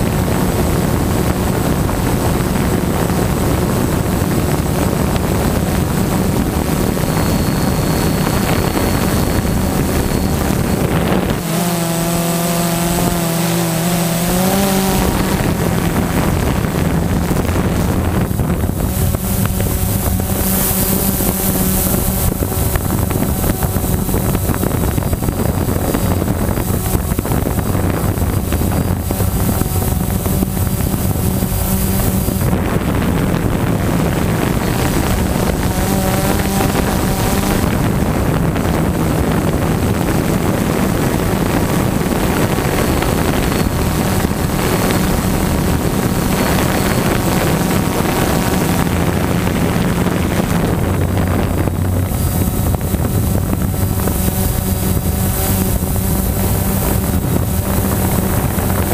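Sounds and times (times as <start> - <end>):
drone motors buzzing: 0.0 - 58.9
wind on microphone: 0.0 - 58.9.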